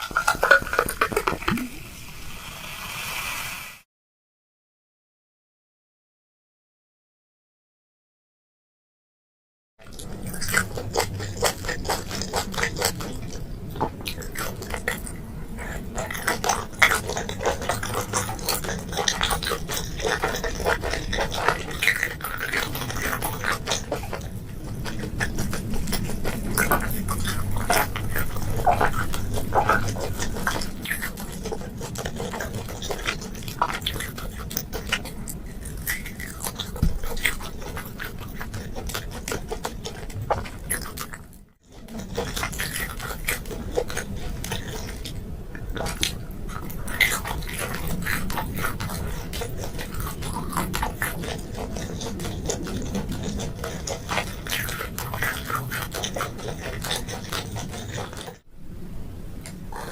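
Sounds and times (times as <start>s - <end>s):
mouth clicks and smacks: 0.0s - 1.8s, 9.8s - 58.4s
wet chewing and biting: 0.0s - 1.8s, 9.8s - 58.5s, 59.4s - 59.9s.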